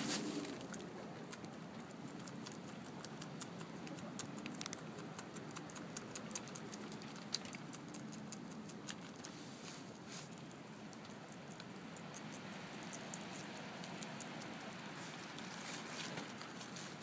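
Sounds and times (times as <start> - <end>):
animal chewing with mouth smacks: 0.0 - 17.0.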